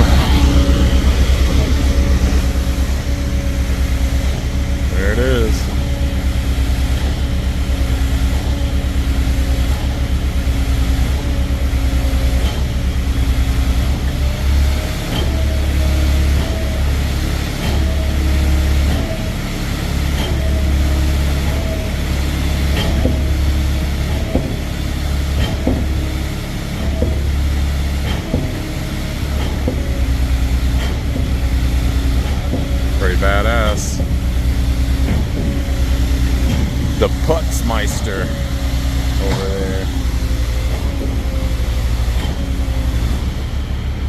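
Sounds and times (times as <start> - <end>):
pump knocking: 0.0 - 43.8
concrete pump engine hum: 0.0 - 44.0.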